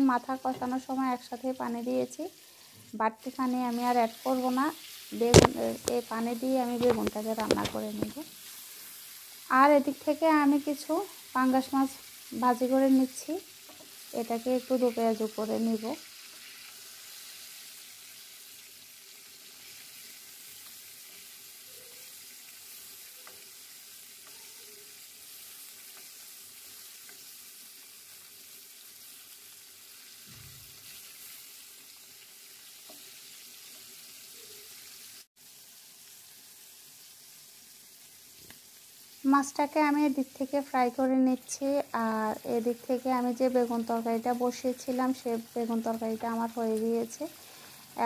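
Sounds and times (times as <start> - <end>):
fish sizzling in hot oil: 0.0 - 48.0.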